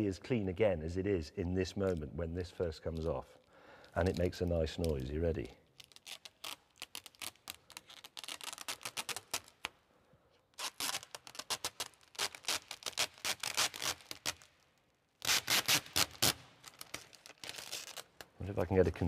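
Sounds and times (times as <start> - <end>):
plastic film peeling: 1.6 - 19.0.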